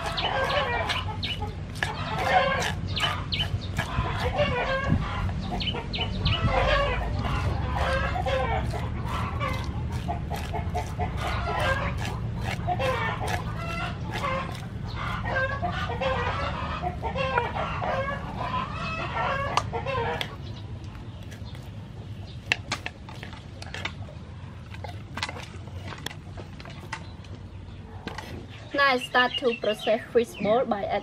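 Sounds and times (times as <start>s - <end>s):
hens clucking: 0.0s - 30.5s.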